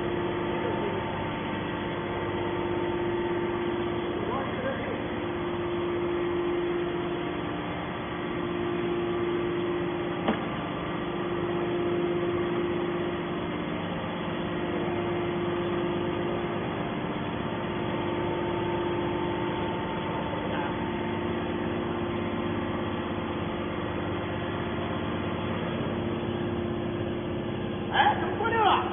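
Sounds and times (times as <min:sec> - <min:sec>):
baler machine humming: 0:00.0 - 0:28.9.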